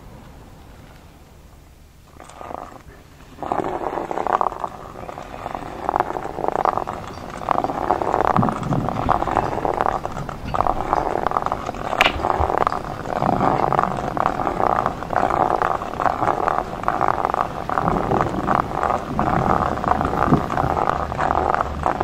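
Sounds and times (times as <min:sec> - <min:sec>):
fluttering crackling texture: 0:02.1 - 0:22.0.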